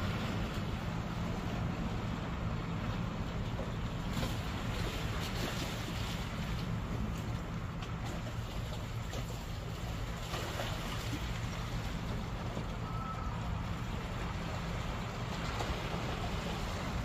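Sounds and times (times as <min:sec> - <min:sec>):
calm sea washing against concrete: 0:00.0 - 0:17.0.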